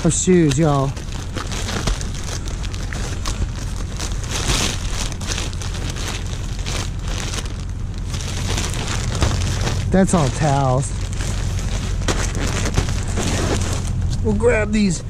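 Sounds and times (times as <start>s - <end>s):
plastic bags rustling: 0.0s - 14.4s.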